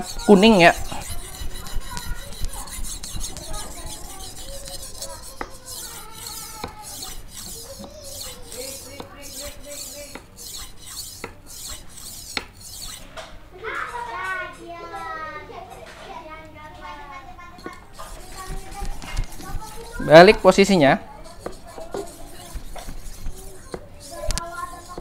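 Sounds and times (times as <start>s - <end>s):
blade scraping on whetstone: 0.0s - 15.0s, 17.6s - 25.0s.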